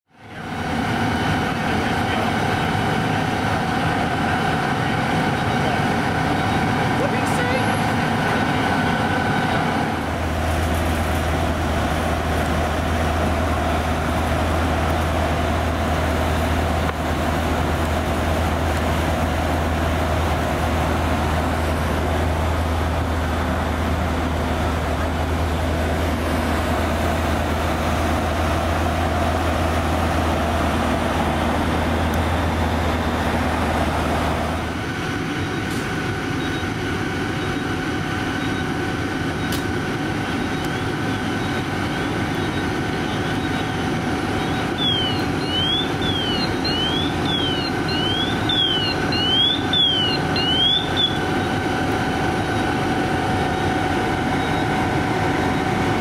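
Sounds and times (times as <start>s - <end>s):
engine idling: 0.1s - 56.0s.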